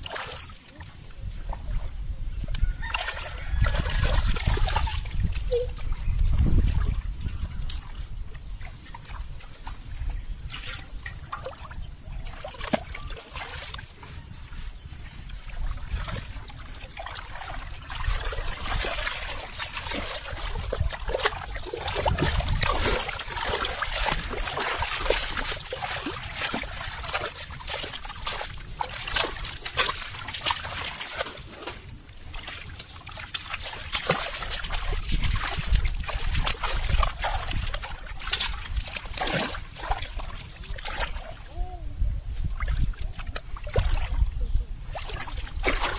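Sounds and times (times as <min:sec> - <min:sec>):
muddy water splashing: 0:00.0 - 0:45.9.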